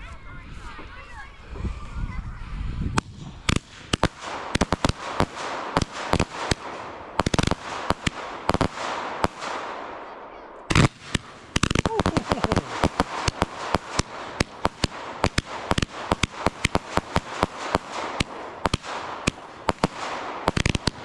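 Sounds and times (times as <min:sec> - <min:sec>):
fireworks bangs: 0:02.9 - 0:21.0
fireworks crackle: 0:03.0 - 0:10.0, 0:10.7 - 0:21.0.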